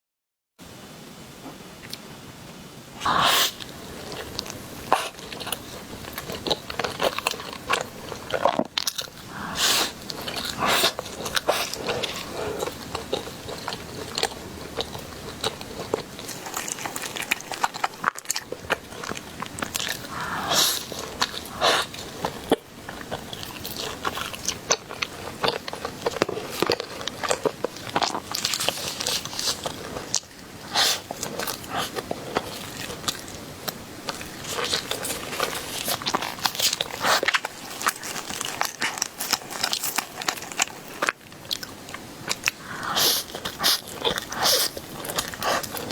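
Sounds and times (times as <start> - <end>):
person biting and chewing: 3.1 - 45.9.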